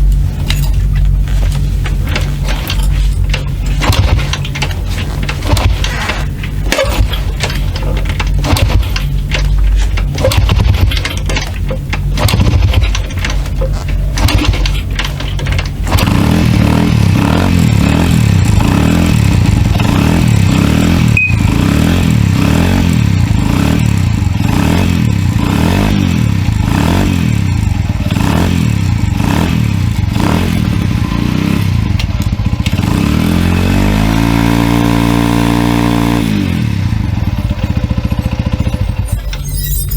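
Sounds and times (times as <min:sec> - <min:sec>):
small motorcycle engine running: 0:01.2 - 0:39.9.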